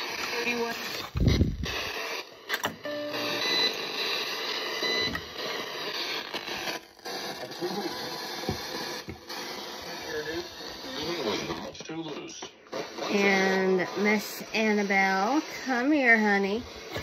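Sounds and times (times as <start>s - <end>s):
radio static hissing: 0.0s - 17.0s
short radio tones: 0.0s - 17.0s.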